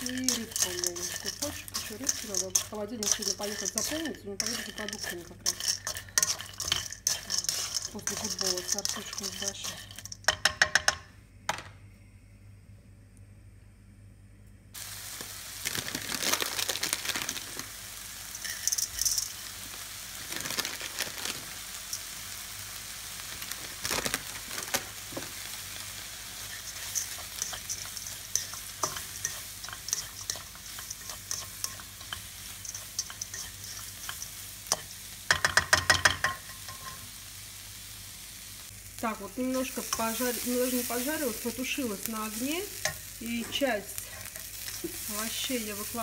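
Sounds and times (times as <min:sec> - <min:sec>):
vegetables sizzling in frying pan: 0:00.0 - 0:10.9, 0:14.8 - 0:46.0.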